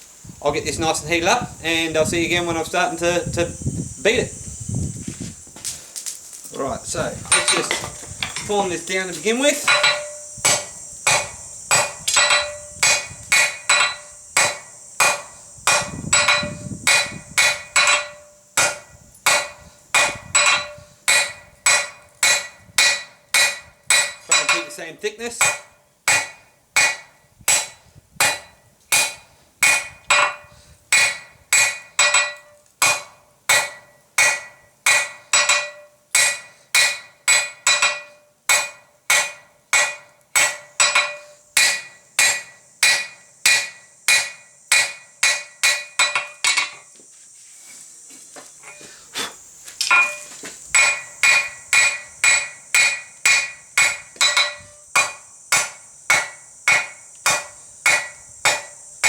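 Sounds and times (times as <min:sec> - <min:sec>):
hammer striking steel on anvil: 0:07.2 - 0:46.8, 0:49.8 - 0:58.8.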